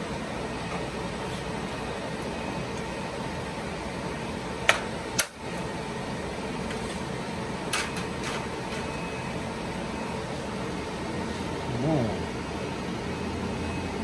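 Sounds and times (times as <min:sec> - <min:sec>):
fan hum: 0:00.0 - 0:14.0.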